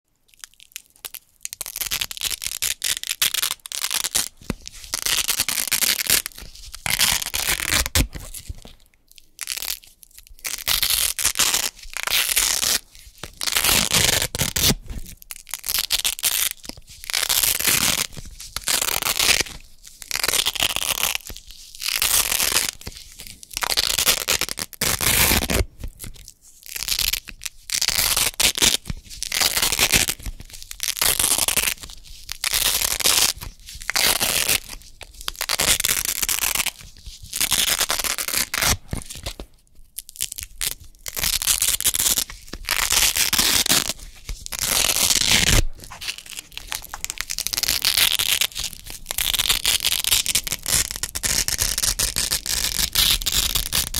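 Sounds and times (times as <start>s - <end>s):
velcro strips ripping: 0.3s - 53.9s.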